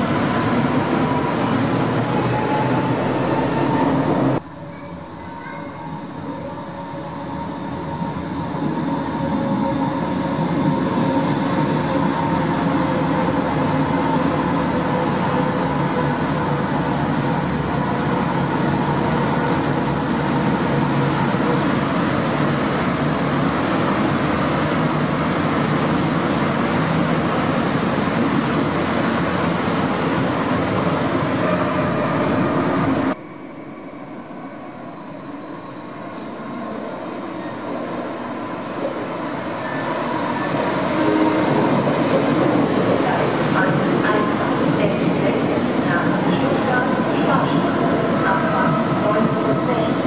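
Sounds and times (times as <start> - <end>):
electric train rumble and hum: 0.0 - 50.0
train approaching rumble: 0.0 - 50.0.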